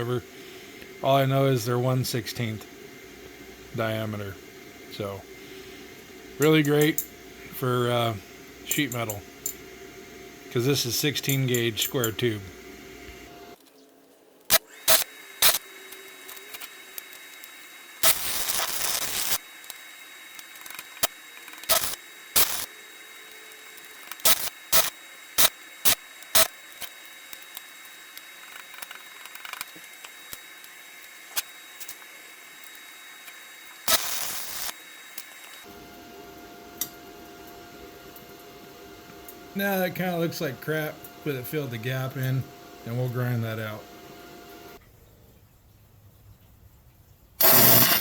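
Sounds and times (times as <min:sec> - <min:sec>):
welding arc crackling: 0:00.0 - 0:13.6, 0:14.4 - 0:44.8, 0:47.4 - 0:48.0.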